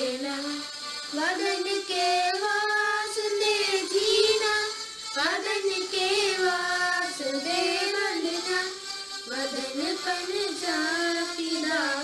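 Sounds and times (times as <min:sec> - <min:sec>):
child singing slow melody: 0:00.0 - 0:12.0.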